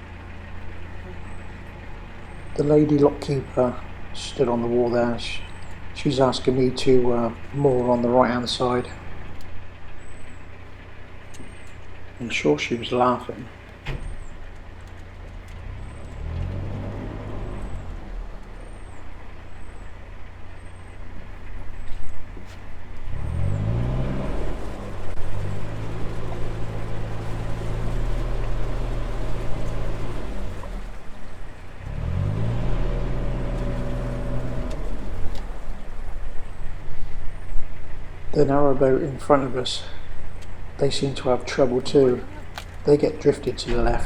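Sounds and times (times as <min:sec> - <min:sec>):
diesel boat engine revving: 0:00.0 - 0:44.0.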